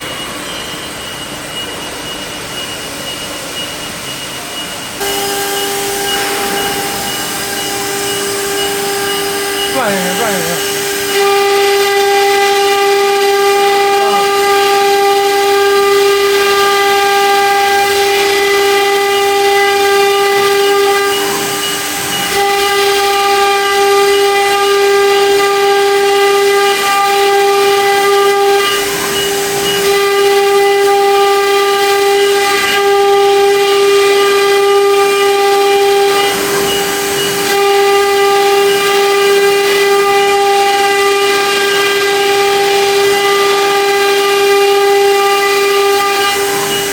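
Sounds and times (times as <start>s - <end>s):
cnc router spindles whining: 0.1s - 46.9s.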